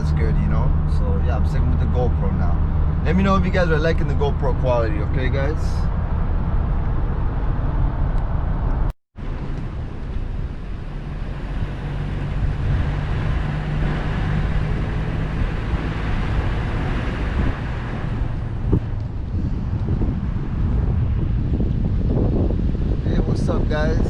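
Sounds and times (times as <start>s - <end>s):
car engine and road noise inside cabin: 0.0s - 24.0s.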